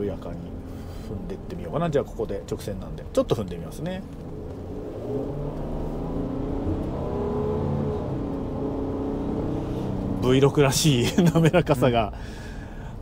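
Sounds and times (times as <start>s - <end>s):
van engine under heavy throttle: 0.0s - 13.0s.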